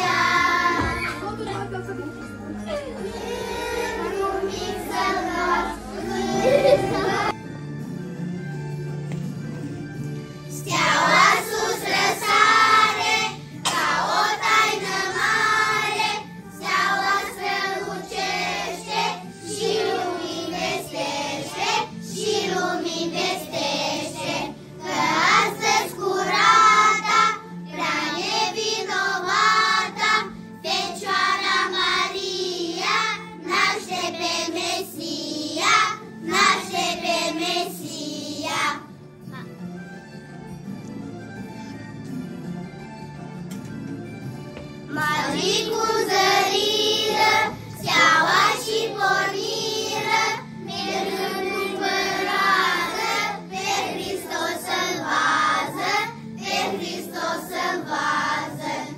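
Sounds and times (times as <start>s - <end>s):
children singing: 0.0s - 1.3s, 2.6s - 7.3s, 10.6s - 38.9s, 44.9s - 58.9s
instrumental backing track: 0.0s - 34.8s, 35.6s - 58.8s.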